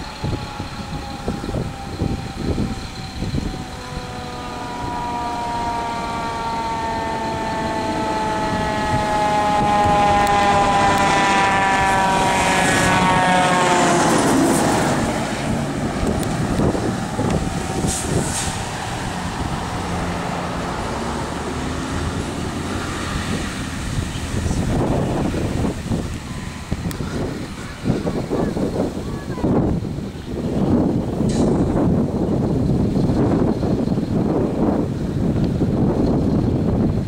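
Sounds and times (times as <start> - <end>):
fire engine siren: 0.0 - 37.0
truck engine and road noise: 0.0 - 37.0.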